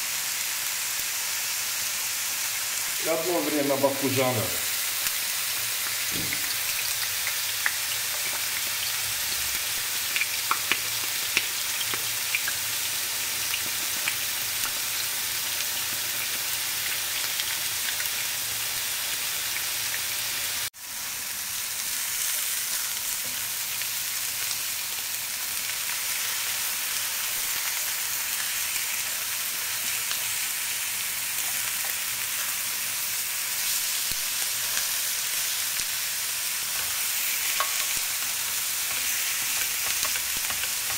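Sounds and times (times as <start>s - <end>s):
food sizzling in hot oil: 0.0s - 40.9s.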